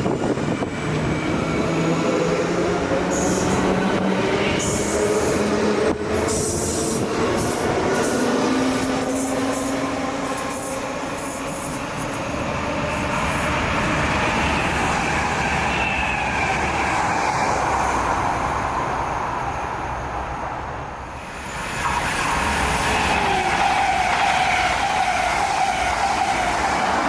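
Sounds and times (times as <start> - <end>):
electric commuter train whining: 0.0 - 27.0
high-speed train high tone: 0.0 - 27.0.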